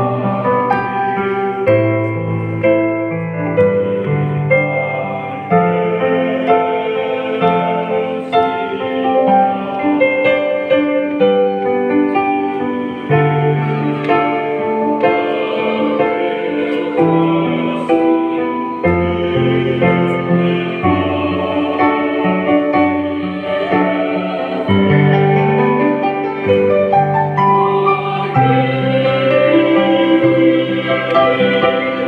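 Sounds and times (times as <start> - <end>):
church choir singing: 0.0 - 32.0
keyboard accompaniment: 0.0 - 32.0.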